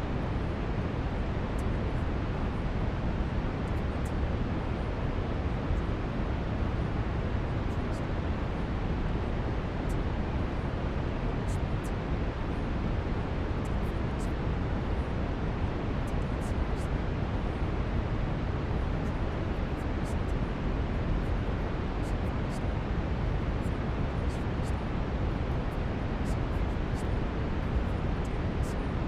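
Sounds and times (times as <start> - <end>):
brown noise hiss: 0.0 - 29.0.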